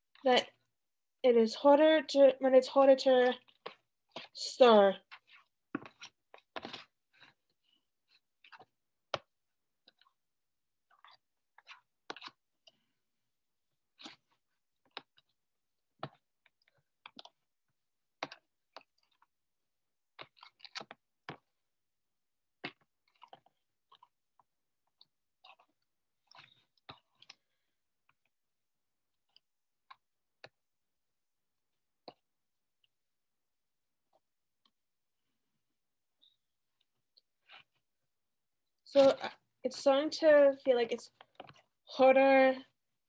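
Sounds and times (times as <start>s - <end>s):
wet slime squelches: 0.0s - 43.0s.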